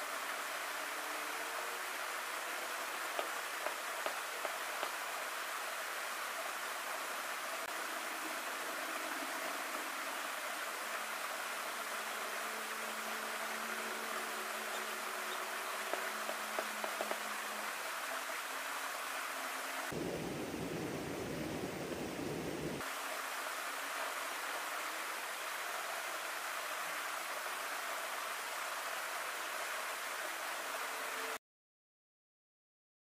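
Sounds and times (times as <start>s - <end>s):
creek water running over stones: 0.0s - 20.1s, 22.8s - 31.4s.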